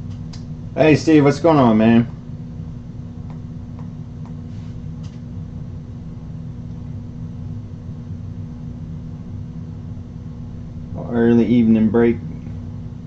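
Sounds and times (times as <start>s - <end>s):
low appliance hum: 0.0s - 13.0s.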